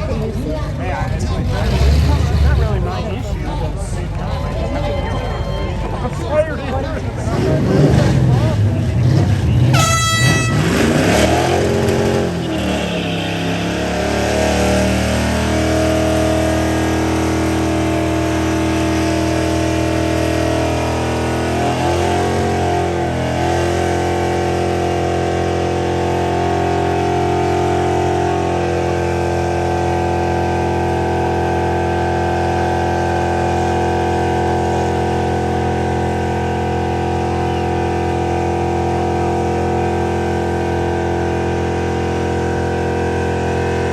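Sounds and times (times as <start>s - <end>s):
car engine revving hard: 1.3s - 3.2s, 7.0s - 43.9s.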